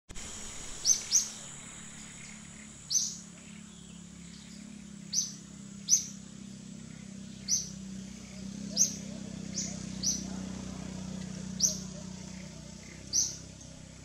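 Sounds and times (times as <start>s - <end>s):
faint high whine: 0.1s - 14.0s
low hum: 0.1s - 14.0s
bird chirping: 0.2s - 14.0s.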